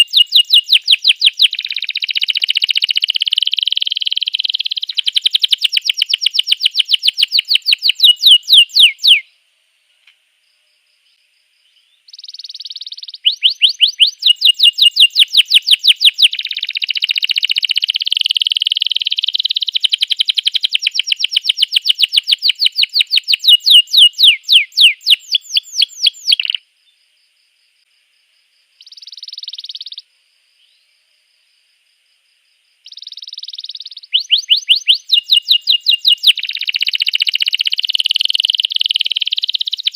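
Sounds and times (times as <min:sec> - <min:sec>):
canary singing trills: 0:00.0 - 0:09.4, 0:11.6 - 0:26.6, 0:28.8 - 0:30.9, 0:32.8 - 0:39.9.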